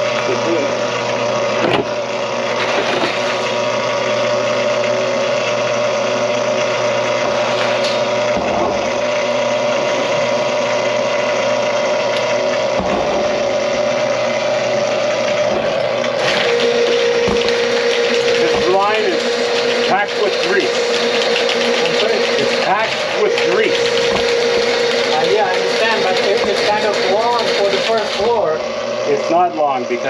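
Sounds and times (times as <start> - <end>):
drain cleaning machine motor hum: 0.0 - 30.0.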